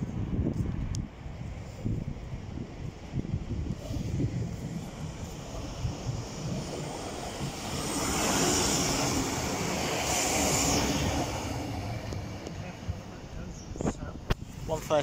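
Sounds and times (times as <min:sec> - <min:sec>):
diesel railcar passing: 0:01.1 - 0:15.0.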